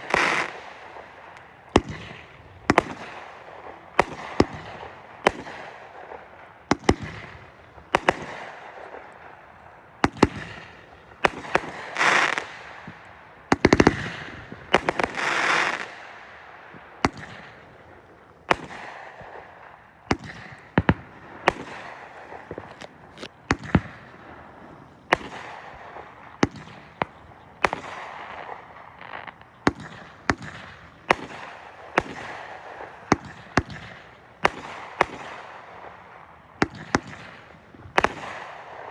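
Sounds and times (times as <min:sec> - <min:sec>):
fireworks bangs: 0:00.0 - 0:38.9
fireworks rushing crackle: 0:00.0 - 0:38.9.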